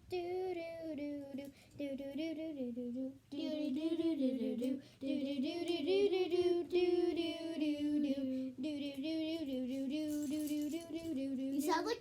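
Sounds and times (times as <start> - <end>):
girl singing wordless tune: 0.0 - 12.0.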